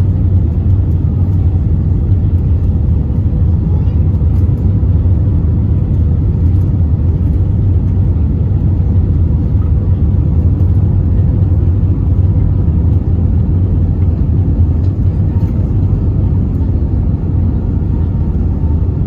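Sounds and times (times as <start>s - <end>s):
airliner cabin engine rumble: 0.0s - 19.0s.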